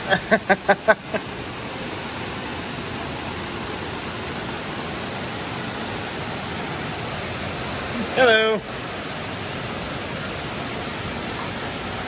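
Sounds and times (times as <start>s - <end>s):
falling water rushing: 0.0s - 12.0s.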